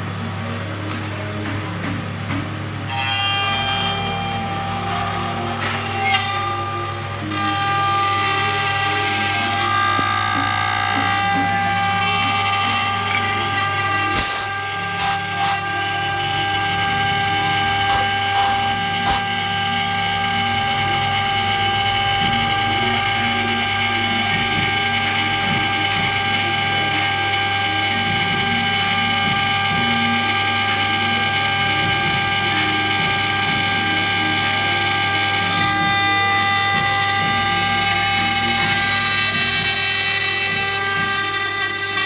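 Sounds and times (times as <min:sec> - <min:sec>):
cnc spindle high whine: 0:00.0 - 0:42.0.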